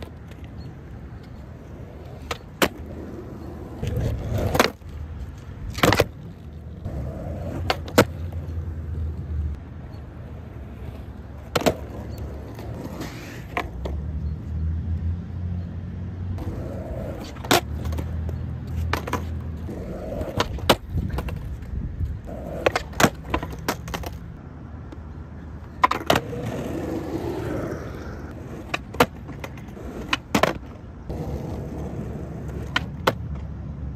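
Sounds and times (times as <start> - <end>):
skateboard clacking on pavement: 0.0 - 9.4, 10.2 - 14.0, 16.4 - 33.6
skateboard wheels rolling: 0.0 - 33.9.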